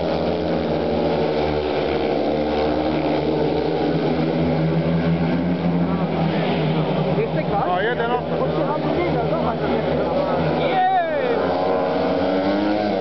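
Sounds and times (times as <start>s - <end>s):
motorcycle engines racing: 0.0s - 13.0s.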